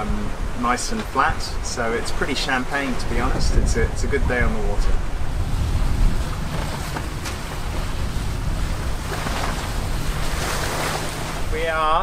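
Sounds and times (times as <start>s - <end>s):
water rushing along hulls: 0.0s - 12.0s
wind buffeting microphone: 0.0s - 12.0s.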